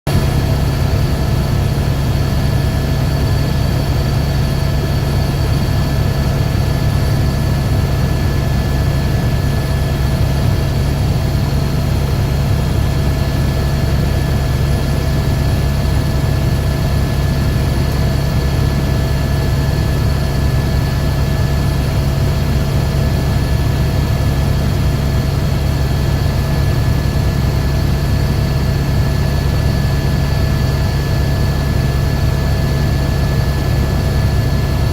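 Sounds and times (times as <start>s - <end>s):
helicopter turbine and rotor: 0.1s - 34.9s.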